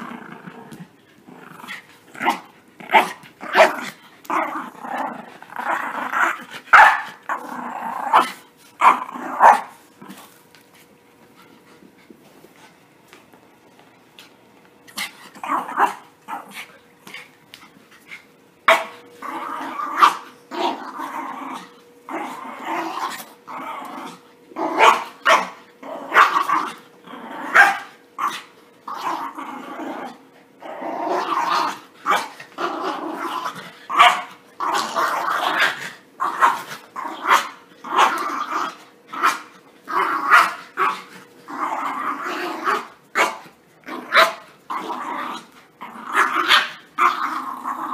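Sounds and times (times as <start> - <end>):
puppies growling: 0.0 - 10.4, 14.9 - 16.8, 19.0 - 47.9.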